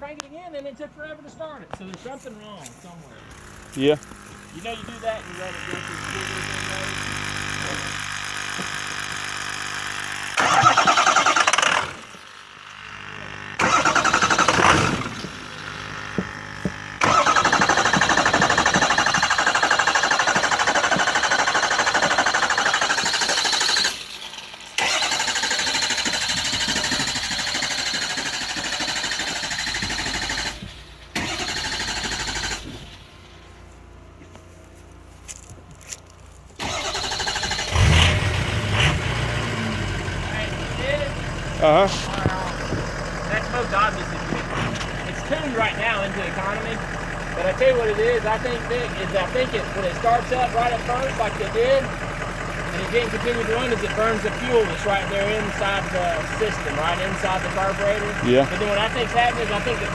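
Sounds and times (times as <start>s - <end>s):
engine cranking on starter: 3.2s - 33.7s, 35.3s - 59.9s.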